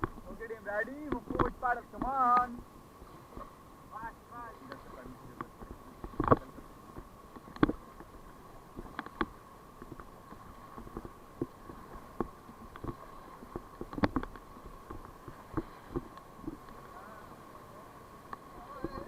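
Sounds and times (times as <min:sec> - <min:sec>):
paddles knocking and splashing: 0:00.0 - 0:17.0
faint steady hum: 0:00.0 - 0:19.0.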